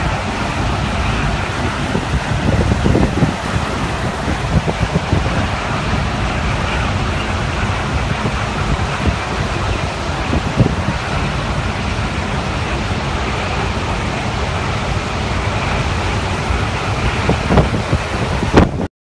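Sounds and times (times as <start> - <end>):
hurricane wind: 0.0 - 18.9
rain: 0.0 - 18.9
wind buffeting microphone: 0.0 - 18.9.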